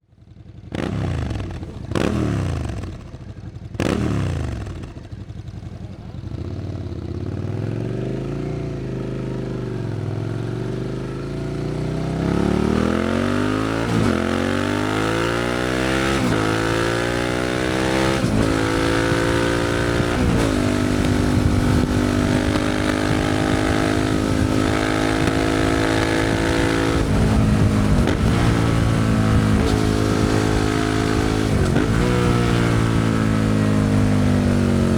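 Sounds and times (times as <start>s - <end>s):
motorcycle engine revving and accelerating: 0.3s - 34.9s.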